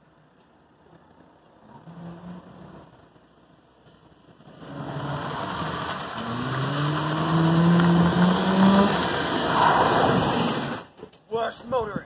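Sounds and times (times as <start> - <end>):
tyre and road noise: 0.0 - 12.0.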